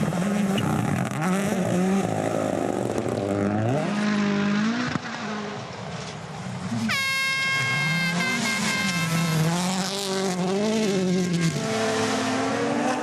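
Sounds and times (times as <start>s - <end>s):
rally car engine revving: 0.0s - 5.7s, 7.5s - 13.0s.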